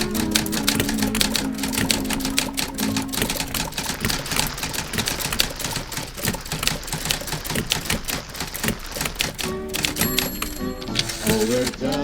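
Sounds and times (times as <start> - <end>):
typewriter keys clacking: 0.0 - 12.0.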